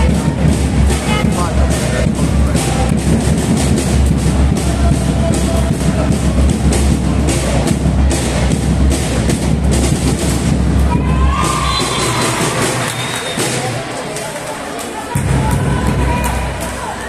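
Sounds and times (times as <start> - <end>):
loud music with pounding drums: 0.0 - 13.6, 15.2 - 16.7.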